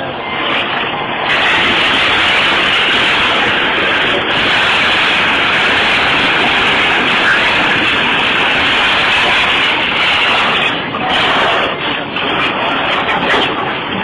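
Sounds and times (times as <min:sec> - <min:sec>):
truck engine running under load: 0:00.0 - 0:14.0.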